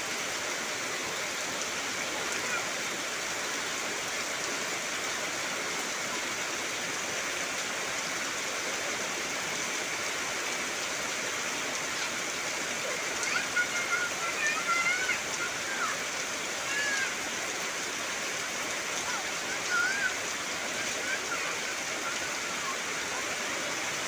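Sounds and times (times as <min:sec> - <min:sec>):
heavy rain on foliage: 0:00.0 - 0:24.0.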